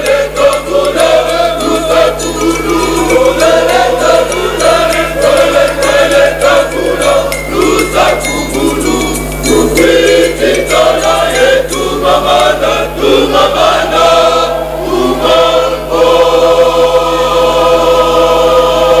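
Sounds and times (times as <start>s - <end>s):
sharp rhythmic beats: 0.0s - 18.8s
church choir singing: 0.0s - 19.0s.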